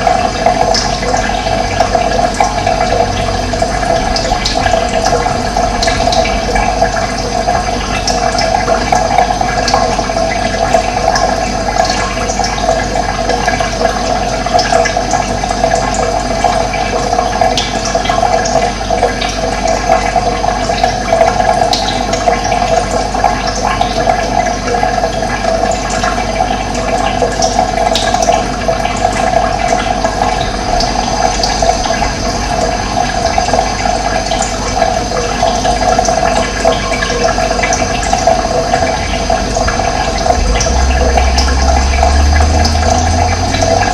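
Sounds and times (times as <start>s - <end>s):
running water stream: 0.0s - 43.9s.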